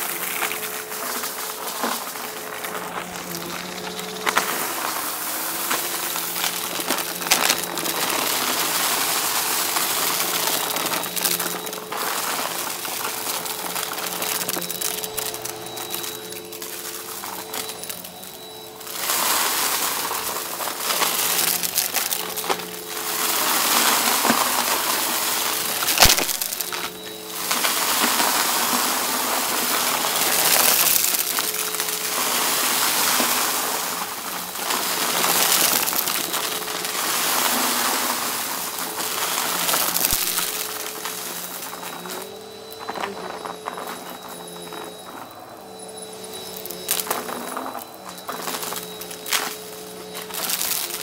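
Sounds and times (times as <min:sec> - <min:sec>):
debris crunching and rattling: 0:00.0 - 0:51.0
vacuum cleaner motor hum: 0:00.0 - 0:51.0.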